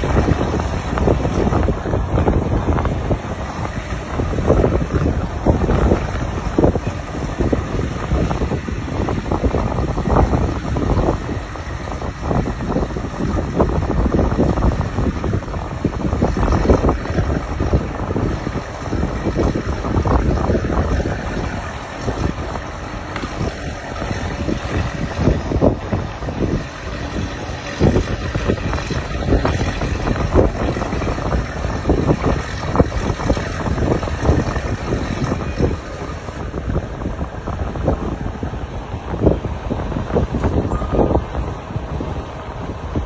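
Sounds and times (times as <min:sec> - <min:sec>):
low engine rumble: 0:00.0 - 0:43.0
wind buffeting microphone: 0:00.0 - 0:43.0.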